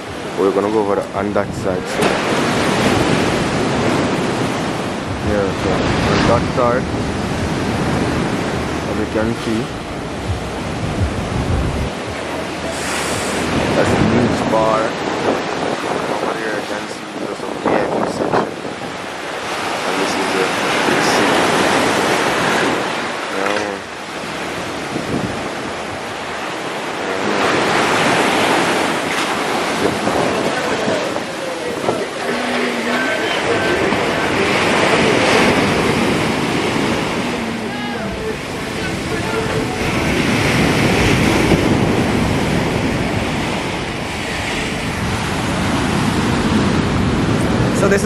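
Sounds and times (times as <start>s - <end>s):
waves breaking on beach: 0.0s - 48.0s
wind buffeting microphone: 0.0s - 48.0s.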